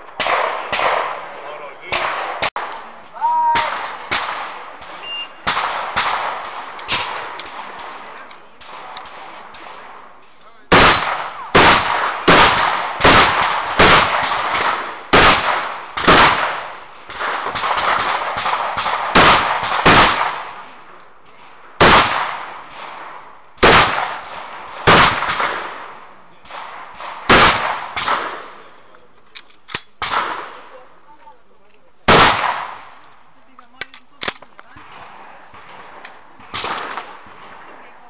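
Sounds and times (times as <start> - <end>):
shotgun shots echoing: 0.0 - 28.7, 29.6 - 30.8, 32.0 - 33.1, 33.8 - 38.0.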